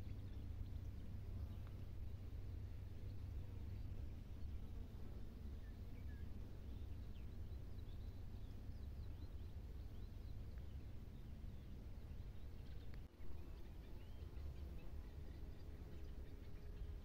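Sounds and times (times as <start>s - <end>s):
small birds singing and chirping: 0.0s - 17.0s.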